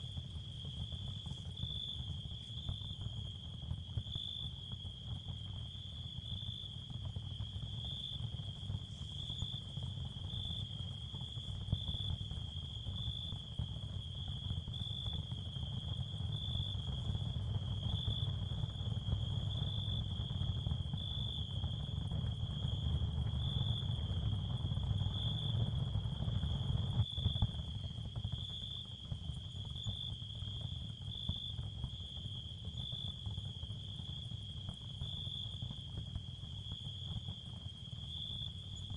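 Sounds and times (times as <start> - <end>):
pulsing high cricket chirp: 0.0 - 38.9.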